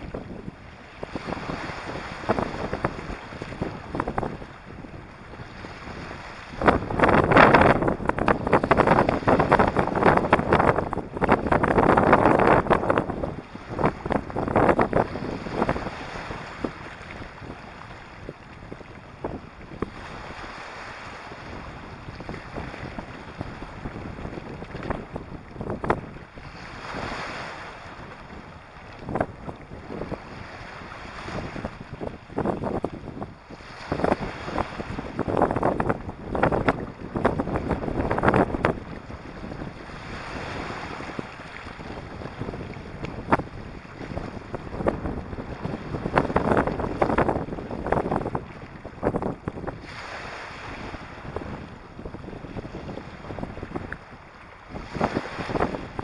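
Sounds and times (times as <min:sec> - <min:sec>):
waves washing over pebbles: 0:00.0 - 0:56.0
wind buffeting microphone: 0:00.0 - 0:56.0.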